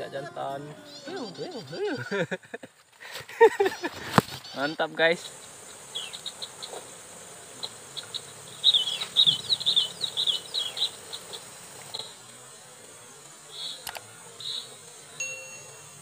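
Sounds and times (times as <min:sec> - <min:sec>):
bird chirping: 0:00.0 - 0:02.2, 0:03.6 - 0:12.2, 0:13.5 - 0:16.0.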